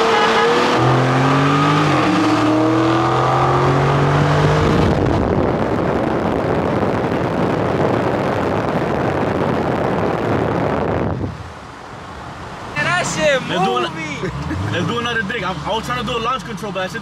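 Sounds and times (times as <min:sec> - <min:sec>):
car engine at full throttle: 0:00.0 - 0:17.0
wind and road noise: 0:00.0 - 0:17.0.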